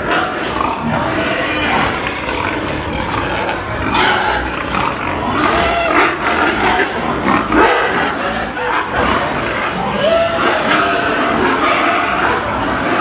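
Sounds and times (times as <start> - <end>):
pigs grunting and squealing: 0.0 - 13.0.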